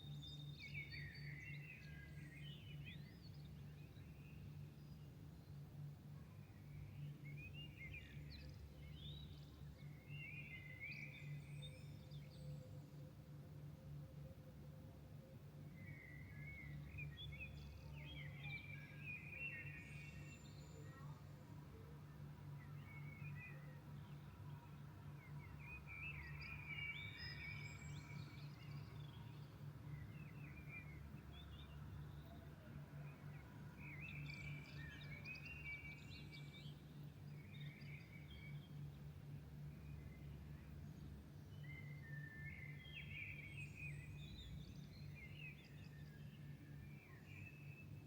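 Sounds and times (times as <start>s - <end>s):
songbirds singing: 0.0s - 14.3s, 15.1s - 48.0s.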